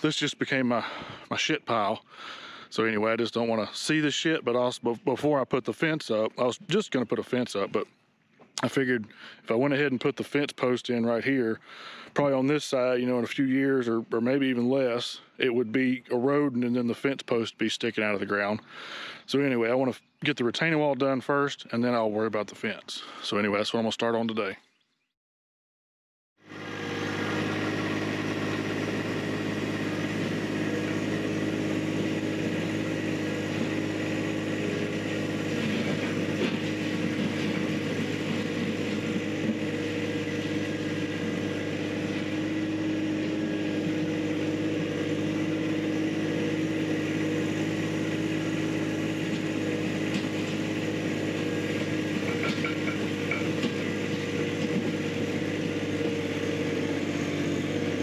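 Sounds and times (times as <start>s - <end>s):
tractor diesel engine running: 0.0s - 7.9s, 8.5s - 23.4s, 26.4s - 58.0s.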